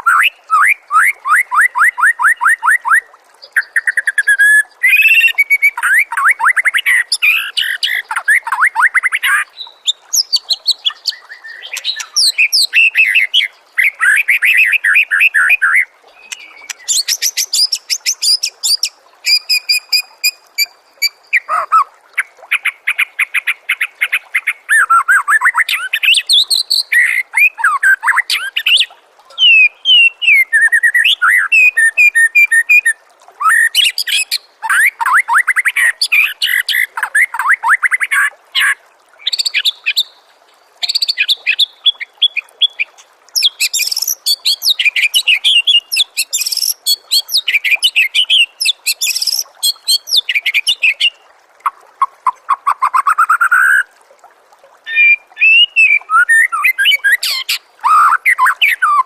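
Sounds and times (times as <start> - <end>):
songbird singing varied phrases: 0.0 - 40.2, 40.8 - 51.2, 54.9 - 59.0.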